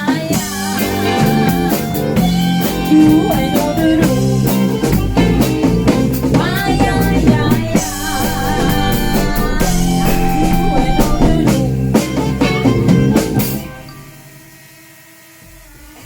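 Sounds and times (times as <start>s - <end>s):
electric guitar: 0.0s - 14.4s
drum kit: 0.2s - 13.9s.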